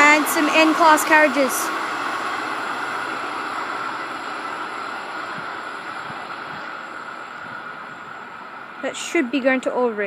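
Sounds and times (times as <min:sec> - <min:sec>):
train carriages rolling on rails: 0:00.0 - 0:10.0.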